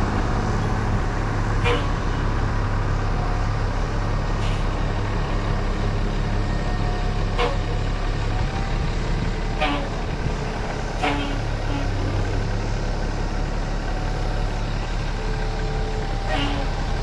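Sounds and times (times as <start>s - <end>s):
heavy farm machine engine humming: 0.0s - 17.0s.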